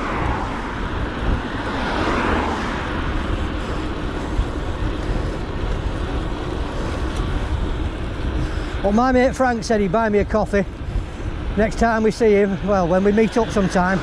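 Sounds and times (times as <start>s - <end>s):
road traffic noise: 0.0s - 14.0s
vehicle passing: 0.0s - 14.0s
wind rushing over microphone: 0.0s - 14.0s.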